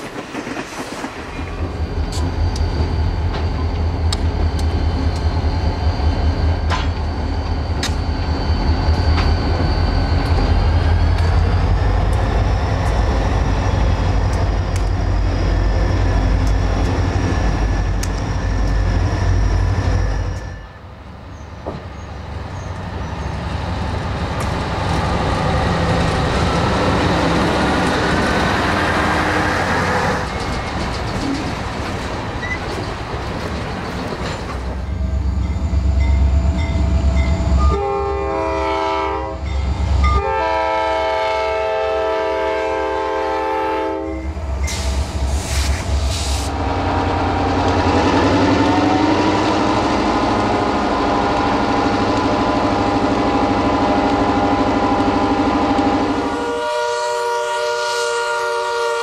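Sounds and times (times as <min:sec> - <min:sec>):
train clanks: 0:00.0 - 0:43.2, 0:44.0 - 0:48.9
diesel locomotive engine rumble: 0:00.0 - 0:59.0.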